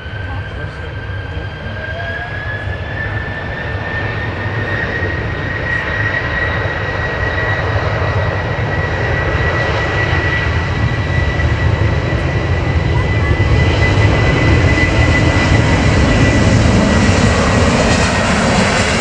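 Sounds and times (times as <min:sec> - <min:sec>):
jet engines whining and rumbling: 0:00.0 - 0:19.0.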